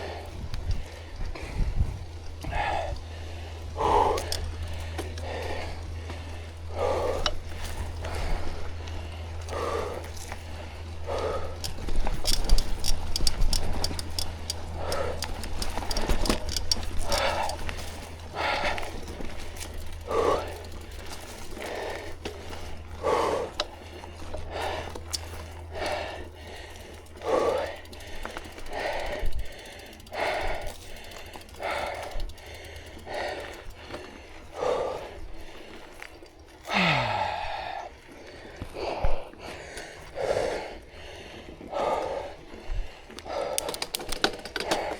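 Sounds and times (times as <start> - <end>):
steady low rumble: 0.0 - 43.6
bike rapid ticks: 0.0 - 44.9
person breathing hard: 0.0 - 44.9.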